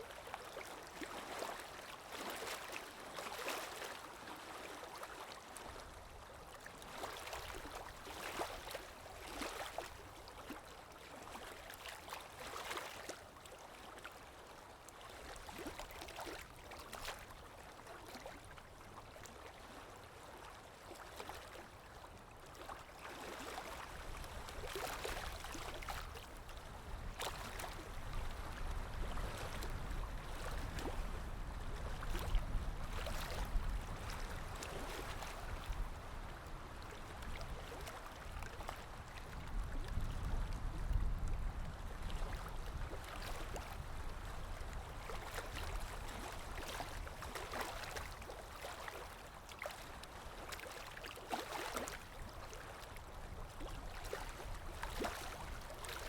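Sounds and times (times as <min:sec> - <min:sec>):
water lapping: 0:00.2 - 0:56.0.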